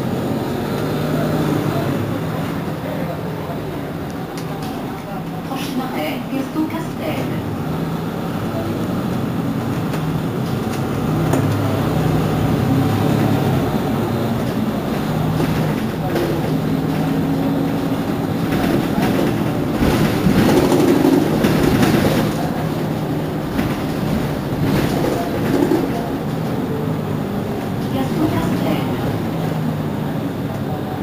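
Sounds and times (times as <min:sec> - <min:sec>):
bus engine idling: 0:00.0 - 0:31.0
street noise: 0:00.0 - 0:31.0
voices: 0:00.7 - 0:31.0.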